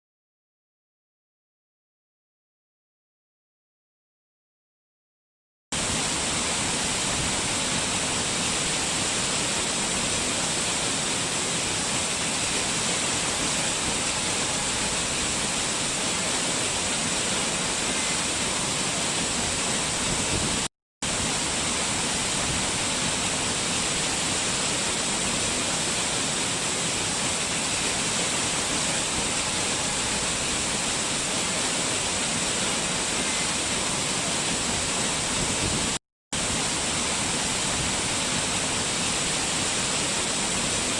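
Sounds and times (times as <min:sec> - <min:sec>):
waterfall rushing: 0:05.8 - 0:40.9.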